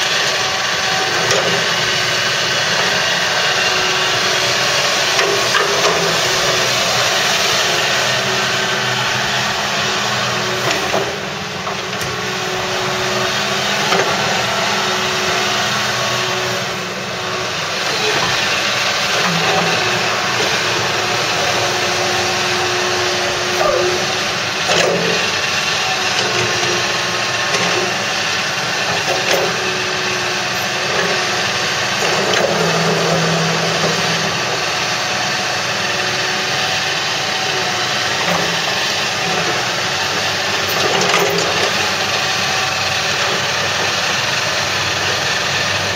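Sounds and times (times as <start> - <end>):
excavator diesel engine under load: 0.0 - 45.9
hydraulic whine: 0.0 - 45.9.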